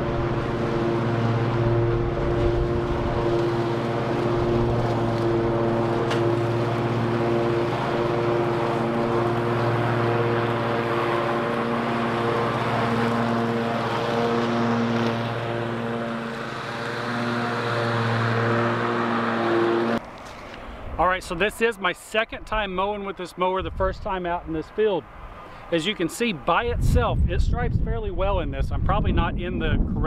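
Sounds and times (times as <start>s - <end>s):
lawn mower engine droning: 0.0s - 26.9s.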